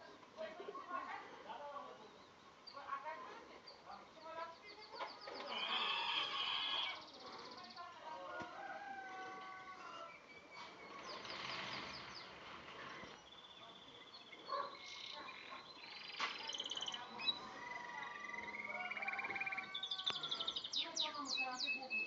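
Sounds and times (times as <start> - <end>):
canary singing: 2.1 - 8.0, 9.4 - 22.0.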